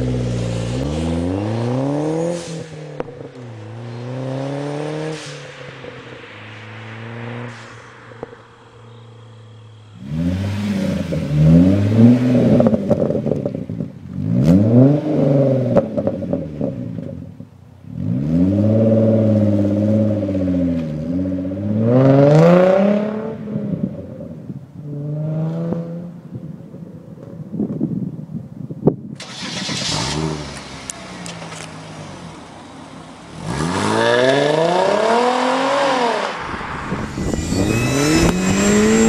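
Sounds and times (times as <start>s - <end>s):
car engine revving: 0.0s - 24.2s, 29.2s - 39.0s.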